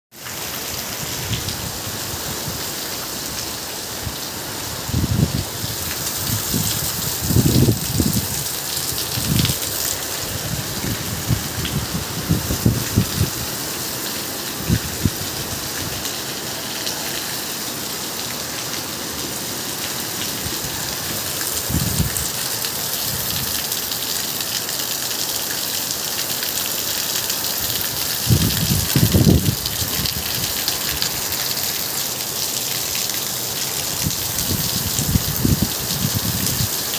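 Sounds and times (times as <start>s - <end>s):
heavy rain on concrete roofs: 0.1s - 36.9s.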